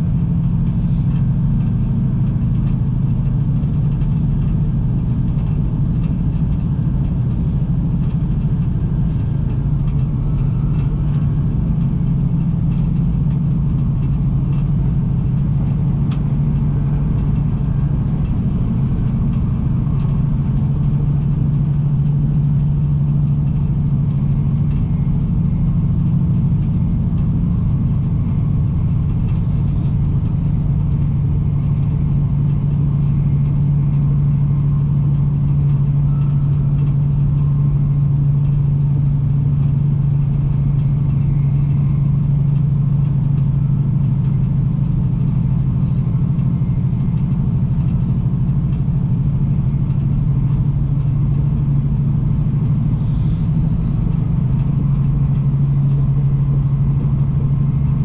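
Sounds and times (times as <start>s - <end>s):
train running gear rumble: 0.0s - 58.0s.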